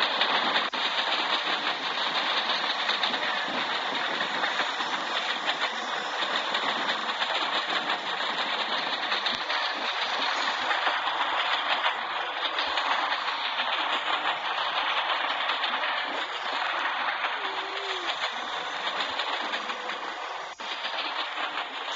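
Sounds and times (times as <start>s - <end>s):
train wheels rushing on rails: 0.0s - 21.9s.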